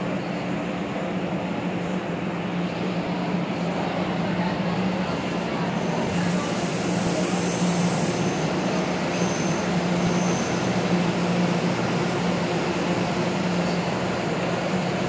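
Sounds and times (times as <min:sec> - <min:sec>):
train humming: 0:00.0 - 0:15.0.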